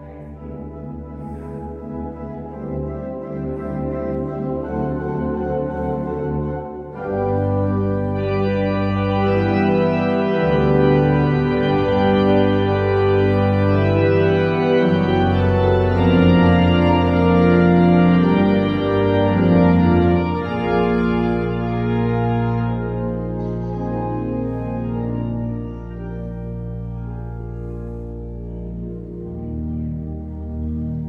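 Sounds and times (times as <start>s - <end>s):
organ playing sustained chords: 0.0s - 31.0s.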